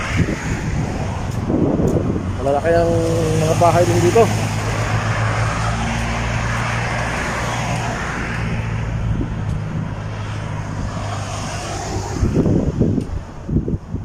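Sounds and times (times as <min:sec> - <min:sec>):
passing cars: 0:00.0 - 0:14.0
low engine hum: 0:00.7 - 0:14.0.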